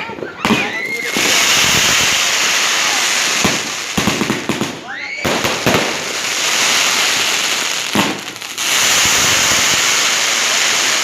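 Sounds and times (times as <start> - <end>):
fireworks crackling: 0.0 - 11.0
firecracker bang: 0.4 - 11.0.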